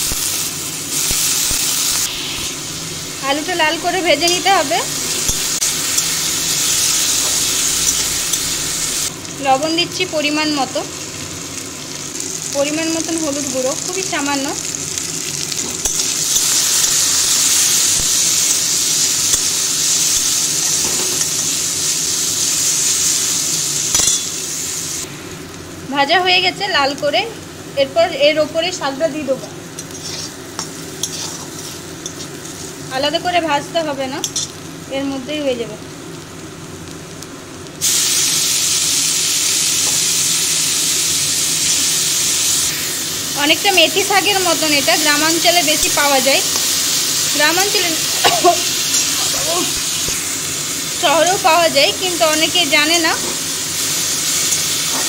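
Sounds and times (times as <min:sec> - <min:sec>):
potatoes sizzling in oil: 0:00.0 - 0:55.0.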